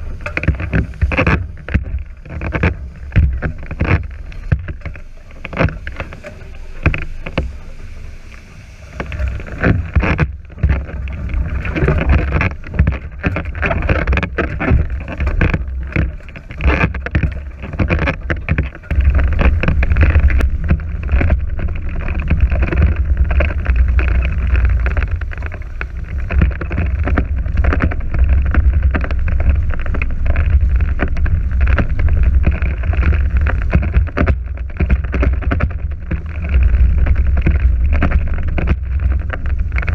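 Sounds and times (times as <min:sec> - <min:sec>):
water rushing past hulls: 0:00.0 - 0:39.9.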